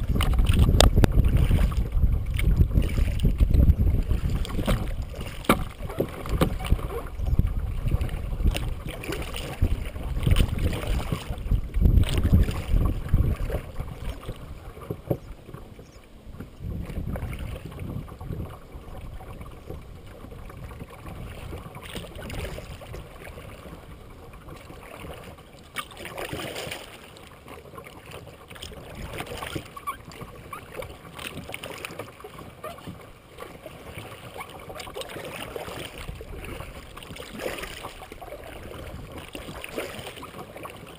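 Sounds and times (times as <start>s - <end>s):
paddle splashes: 0.0s - 40.9s
water swishing along hull: 0.0s - 40.9s.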